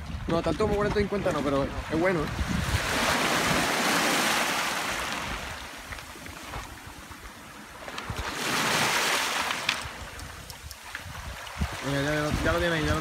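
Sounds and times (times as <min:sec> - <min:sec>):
sea surf washing on shore: 0:00.0 - 0:13.0.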